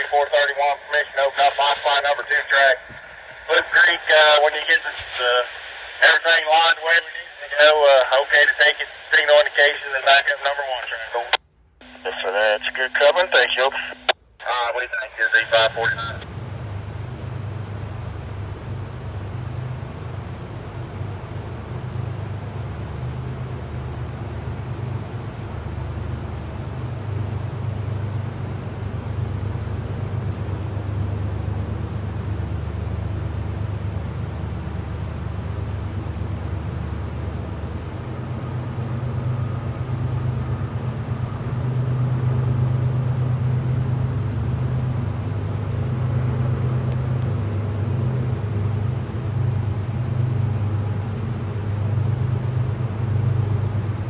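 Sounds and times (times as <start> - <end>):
diesel locomotives rumbling: 0.0 - 54.0.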